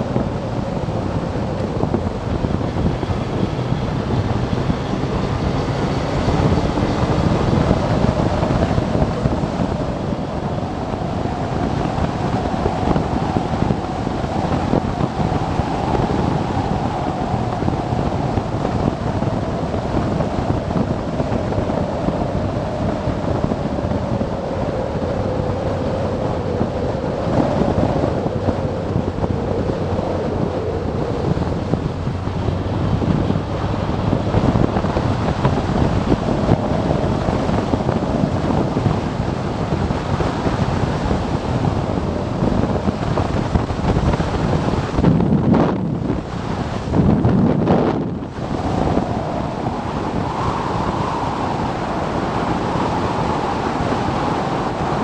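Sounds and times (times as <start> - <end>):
motorcycle engine drone: 0.0 - 55.0
wind rush on microphone: 0.0 - 55.0.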